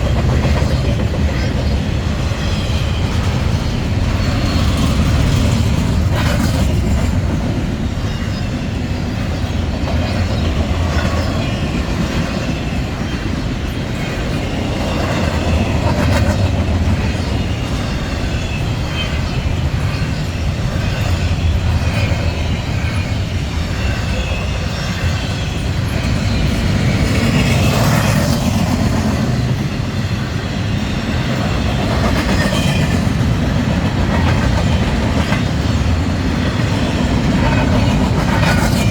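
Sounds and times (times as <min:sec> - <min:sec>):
train wheels rumbling on rail: 0:00.0 - 0:38.9
wheels clicking over rail joints: 0:00.0 - 0:38.9.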